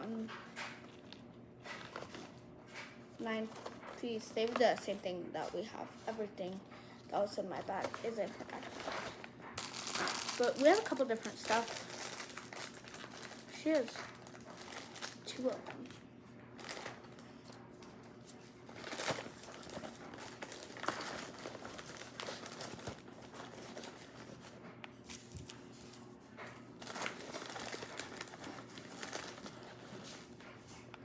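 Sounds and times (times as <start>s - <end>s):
packaging rustling and crinkling: 0.6s - 5.6s, 7.2s - 16.0s, 16.6s - 30.8s.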